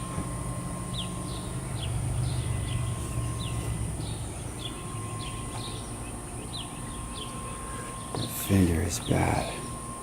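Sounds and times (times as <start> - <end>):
bird chirping: 0.0 - 9.8.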